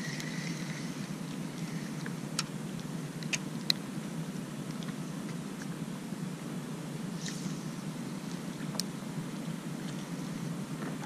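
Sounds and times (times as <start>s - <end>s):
low background noise on water: 0.0s - 11.0s.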